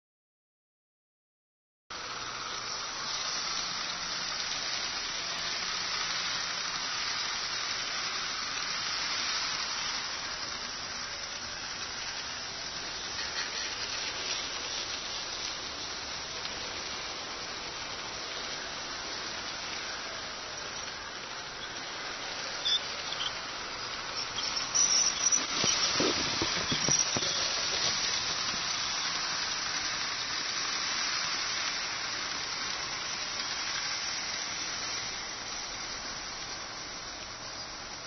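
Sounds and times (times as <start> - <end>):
model train wheels rolling on rails: 1.9 - 38.0.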